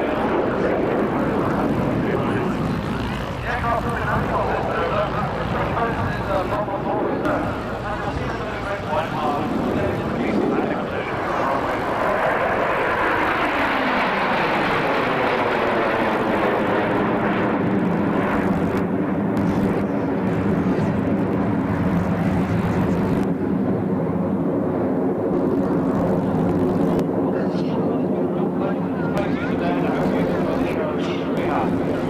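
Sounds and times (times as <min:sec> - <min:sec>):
jets flying over: 0:00.0 - 0:32.0.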